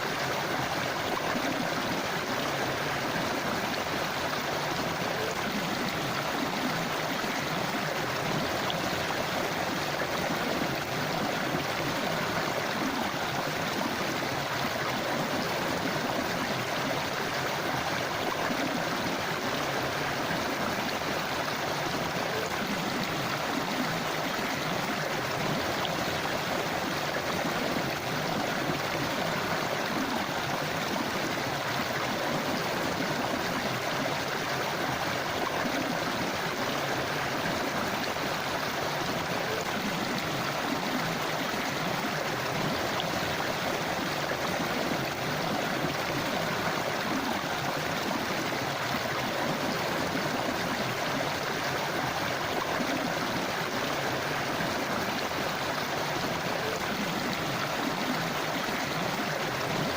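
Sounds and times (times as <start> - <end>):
flowing stream: 0.0 - 59.9.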